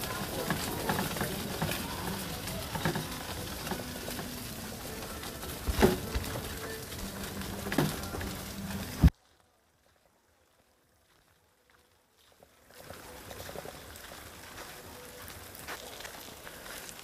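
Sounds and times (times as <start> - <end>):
footsteps on dry leaves: 0.0 - 9.4, 11.0 - 17.0.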